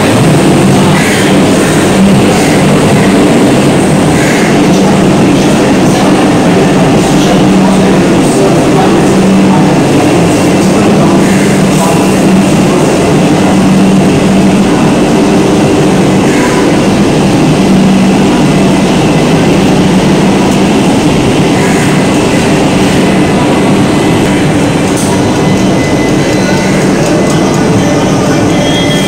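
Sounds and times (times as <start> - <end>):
train low machine hum: 0.0 - 29.0.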